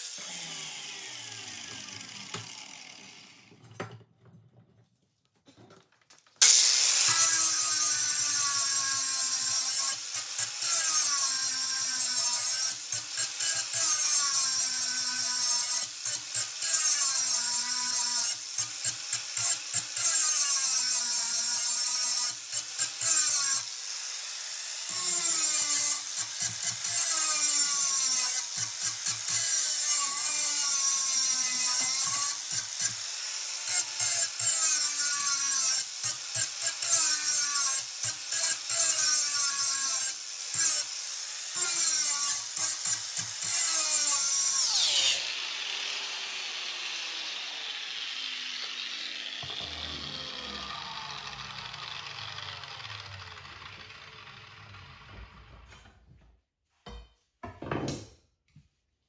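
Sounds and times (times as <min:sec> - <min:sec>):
power tool rasping against metal: 0:06.4 - 0:54.7.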